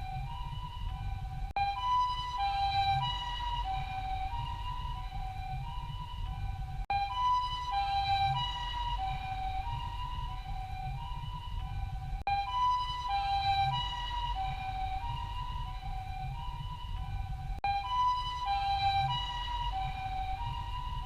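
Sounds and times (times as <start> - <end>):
steady low rumble: 0.0 - 21.0
two-tone ambulance siren: 0.0 - 21.0.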